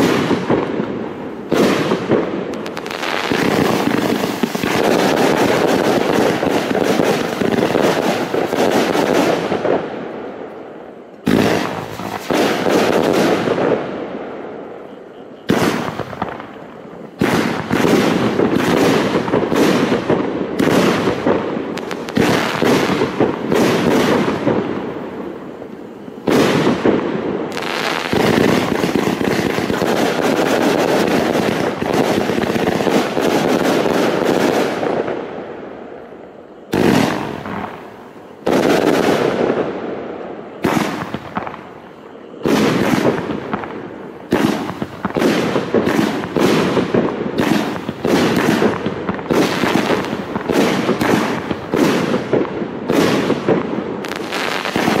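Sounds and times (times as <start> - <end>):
fireworks firing and crackling: 0.0 - 55.0.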